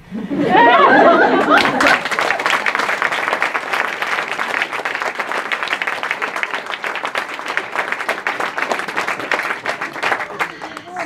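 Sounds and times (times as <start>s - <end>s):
audience applauding: 0.5s - 11.0s.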